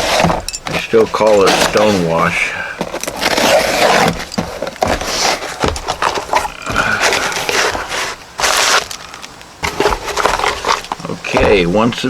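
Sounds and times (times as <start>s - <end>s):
packaging clicks taps and scrapes: 0.0s - 11.7s
packaging rustling: 0.0s - 11.8s.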